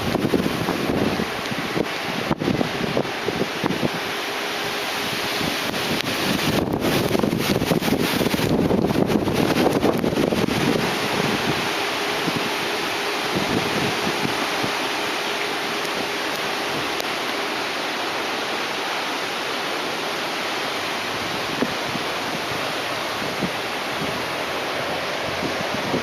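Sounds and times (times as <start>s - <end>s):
heavy rain: 0.0s - 26.0s
wind gusts buffeting microphone: 0.0s - 26.0s.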